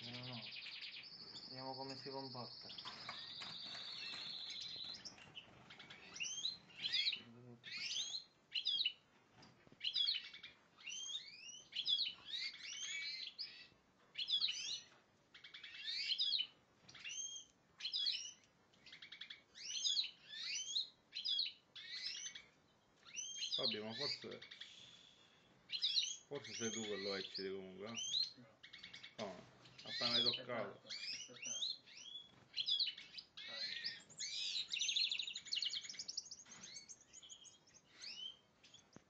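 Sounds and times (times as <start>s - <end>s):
goldfinch twittering song: 0.0s - 9.0s, 9.8s - 39.0s.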